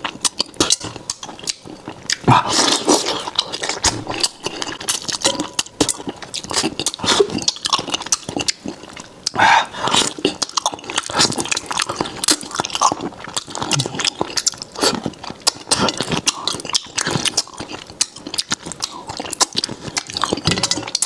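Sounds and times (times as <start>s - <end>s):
man chewing food: 0.0s - 21.0s.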